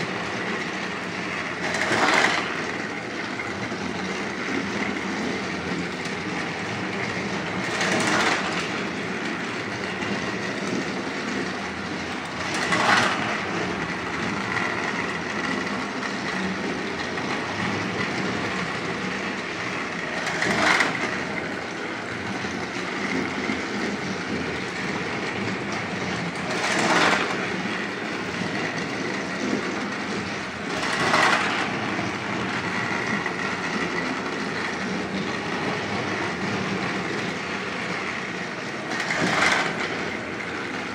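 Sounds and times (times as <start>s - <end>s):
toy train clatter: 0.0s - 40.9s
toy train motor whir: 0.0s - 40.9s.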